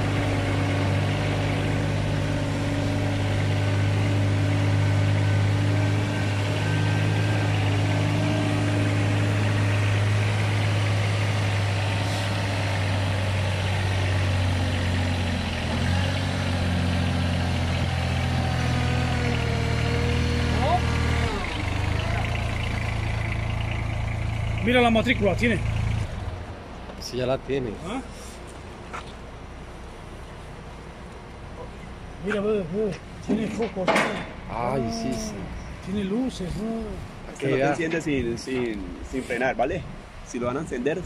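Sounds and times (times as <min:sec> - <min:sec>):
dumper engine running at low speed: 0:00.0 - 0:33.2.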